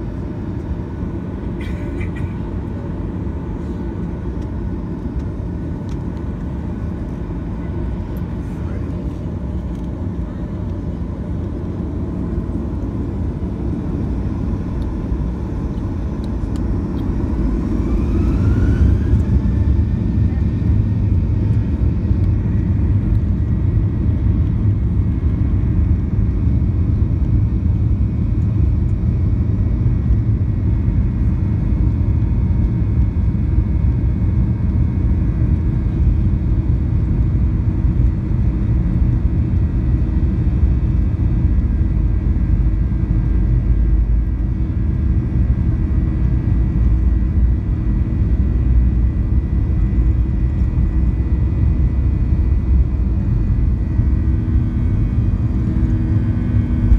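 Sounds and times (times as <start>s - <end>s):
jet engines rumbling: 0.0s - 56.9s.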